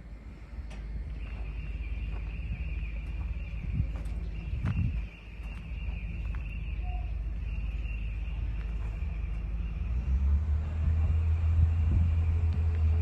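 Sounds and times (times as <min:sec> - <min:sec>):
excavator diesel engine throbbing: 0:00.0 - 0:13.0.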